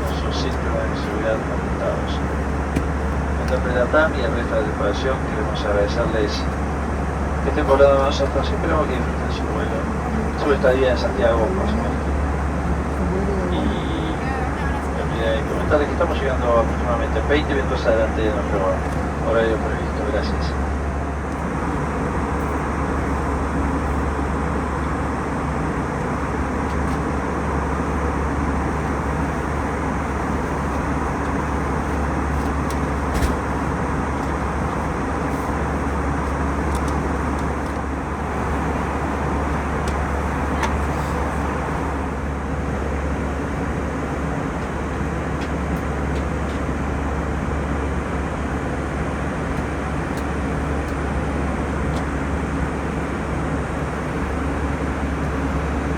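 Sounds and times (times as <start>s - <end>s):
airplane cabin drone: 0.0s - 55.9s.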